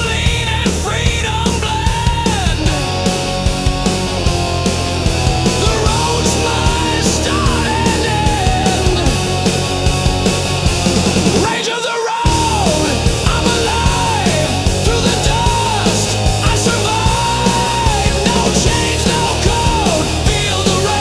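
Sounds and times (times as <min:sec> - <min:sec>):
heavy rock music: 0:00.0 - 0:21.0.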